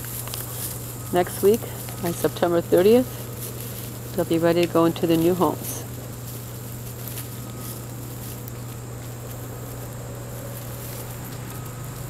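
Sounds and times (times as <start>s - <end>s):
low hum: 0.0s - 12.0s
puppies rustling in straw: 0.0s - 12.0s.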